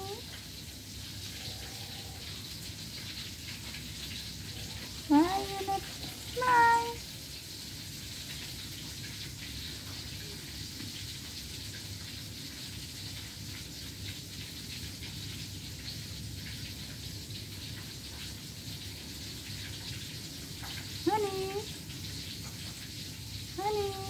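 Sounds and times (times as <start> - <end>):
steady hiss with faint crackles: 0.0 - 24.0.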